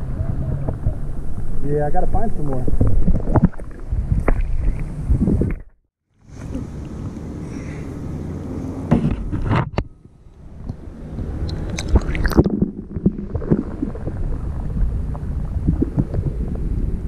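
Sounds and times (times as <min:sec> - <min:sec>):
low rumbling water: 0:00.0 - 0:17.0.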